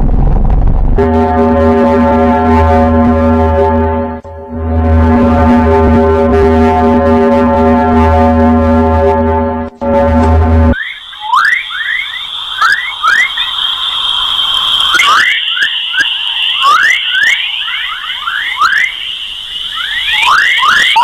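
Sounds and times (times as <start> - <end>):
steady high electronic tone: 0.8 - 21.0.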